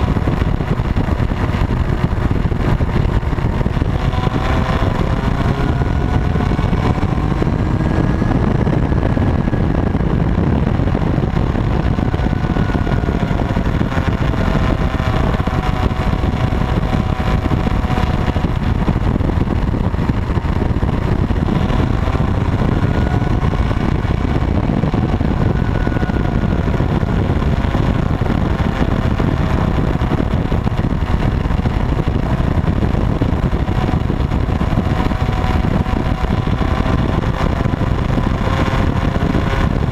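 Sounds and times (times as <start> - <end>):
loud low rumble: 0.0 - 39.9
motorcycle engine running: 0.0 - 39.9.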